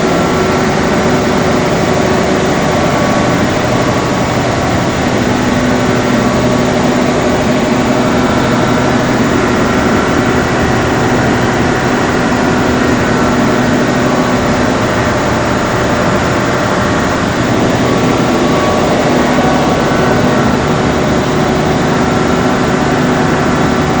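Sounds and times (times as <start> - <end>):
diesel generator droning: 0.0 - 24.0.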